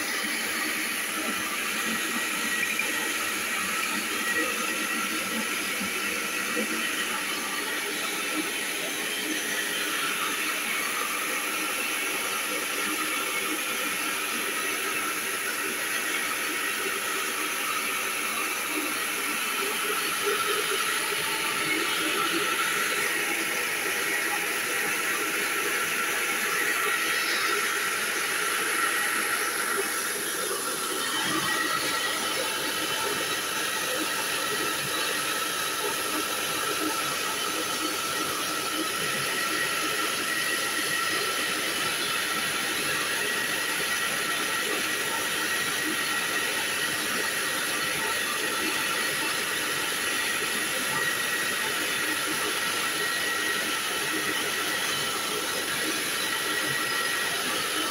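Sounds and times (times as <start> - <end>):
rice mill running: 0.0 - 57.9.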